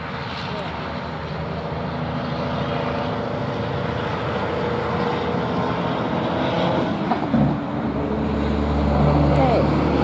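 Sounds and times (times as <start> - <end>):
engine drone: 0.0 - 10.0.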